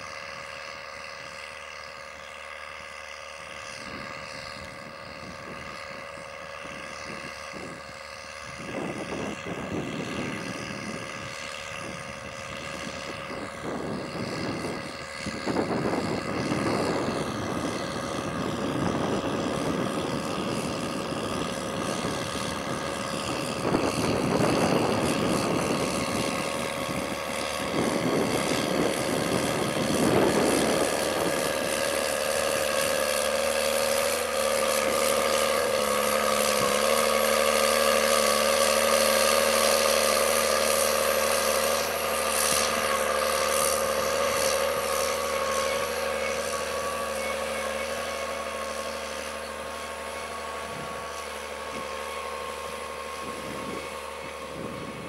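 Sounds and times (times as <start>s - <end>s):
steady whine: 0.0s - 55.0s
tractor diesel engine under load: 0.0s - 55.0s.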